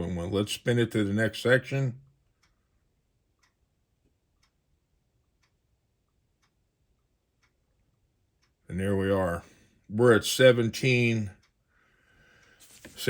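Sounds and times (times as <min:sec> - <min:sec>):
faint ticking: 0:00.0 - 0:13.0.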